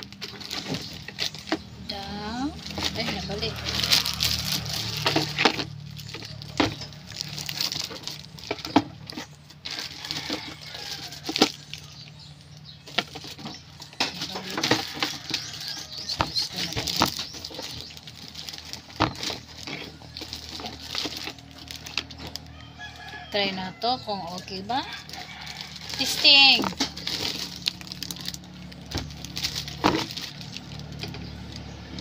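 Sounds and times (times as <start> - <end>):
plastic parts and packaging handled: 0.0 - 32.0.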